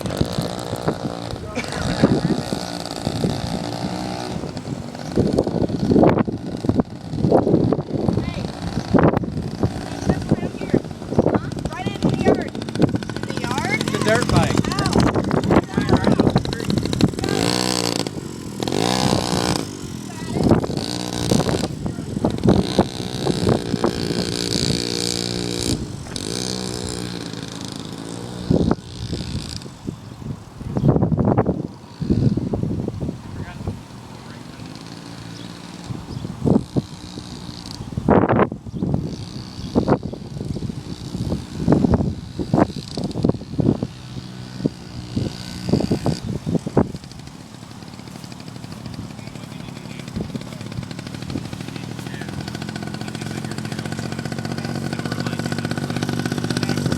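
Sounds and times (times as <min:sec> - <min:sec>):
small dirt bike engine running: 0:00.0 - 0:56.9.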